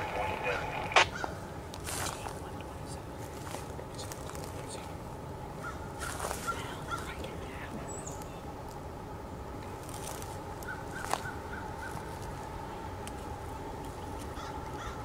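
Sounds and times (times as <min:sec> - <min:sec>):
faint hum: 0:00.0 - 0:15.0
outdoor background noise: 0:00.0 - 0:15.0.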